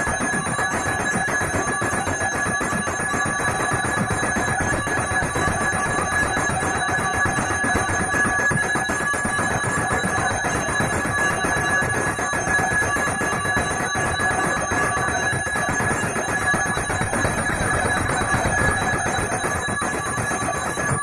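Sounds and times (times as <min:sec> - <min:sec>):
temple bell rung rapidly: 0:00.0 - 0:21.0.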